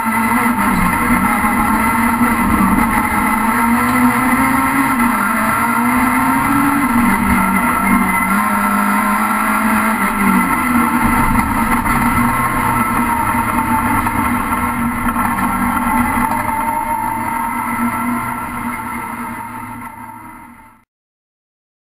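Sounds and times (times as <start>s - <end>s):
race car engine running hard: 0.0s - 20.8s.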